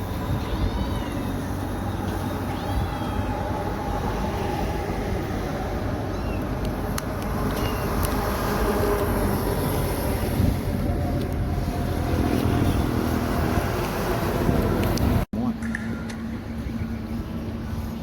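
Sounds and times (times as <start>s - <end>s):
tyre noise on road: 0.0s - 15.3s
truck engines rumbling: 0.0s - 18.0s.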